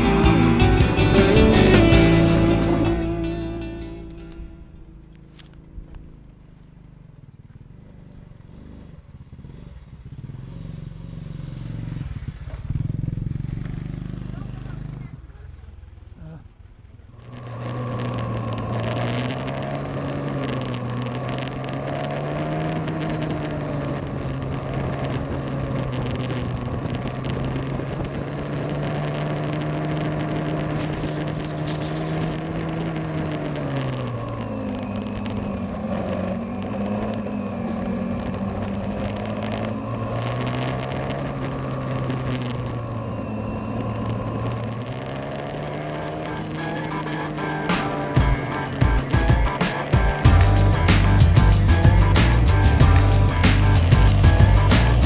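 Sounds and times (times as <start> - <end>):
motorcycle engine running: 0.0 - 55.0
wind and road noise: 1.9 - 55.0.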